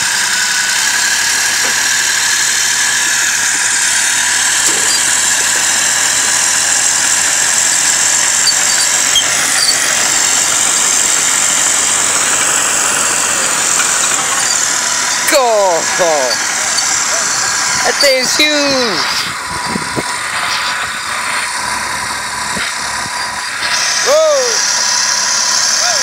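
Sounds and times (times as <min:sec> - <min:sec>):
bulldozer engine under load: 0:00.0 - 0:26.0
high-pitched squeal: 0:00.0 - 0:26.0.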